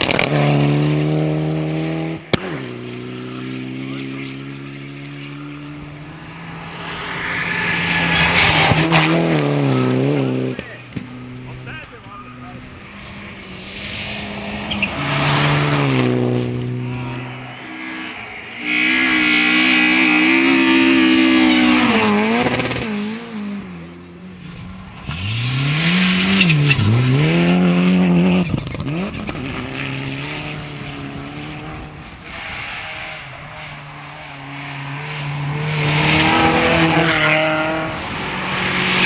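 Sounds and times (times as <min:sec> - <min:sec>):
rally car engines passing: 0:00.0 - 0:39.0.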